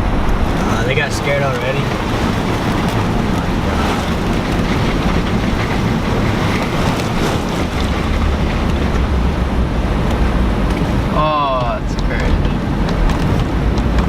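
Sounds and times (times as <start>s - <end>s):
car engine running: 0.0s - 14.0s
water rushing against vehicle: 0.0s - 14.0s.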